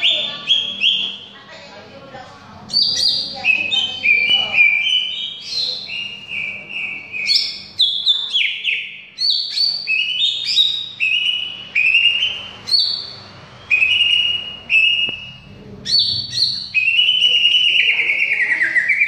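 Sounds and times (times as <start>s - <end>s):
bird singing whistled notes: 2.7s - 19.0s.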